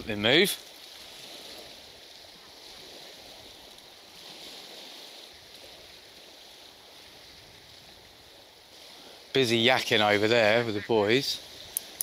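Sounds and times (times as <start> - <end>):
sea washing on shore: 0.0 - 12.0.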